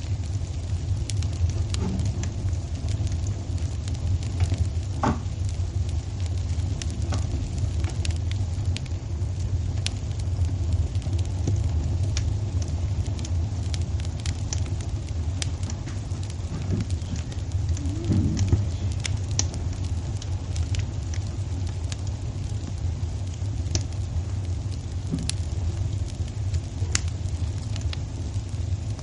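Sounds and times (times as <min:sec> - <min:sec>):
fire crackling and popping: 0:00.0 - 0:29.0
fire low rumble: 0:00.0 - 0:29.0.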